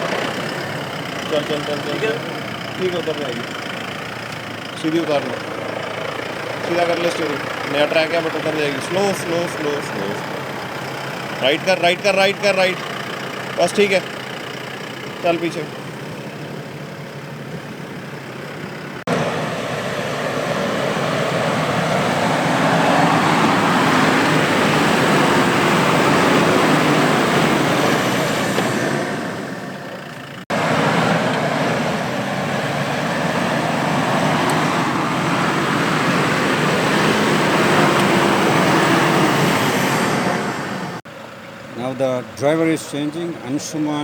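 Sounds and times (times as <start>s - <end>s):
suv engine under load: 0.0s - 44.0s.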